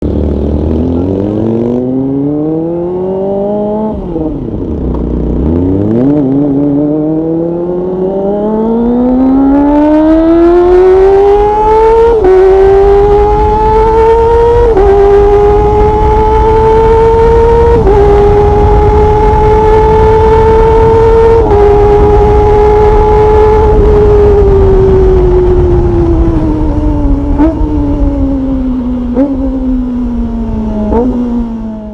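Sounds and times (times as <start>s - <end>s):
motorcycle engine revving hard: 0.0s - 31.9s.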